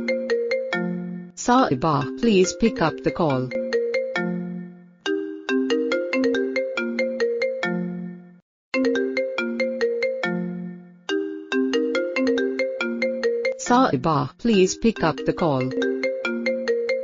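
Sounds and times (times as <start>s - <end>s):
phone ringtone melody: 0.0s - 13.8s, 14.6s - 17.0s.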